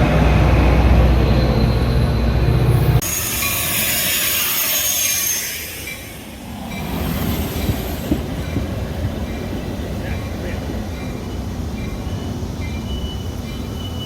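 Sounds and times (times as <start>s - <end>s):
train rolling on rails: 0.0s - 14.0s.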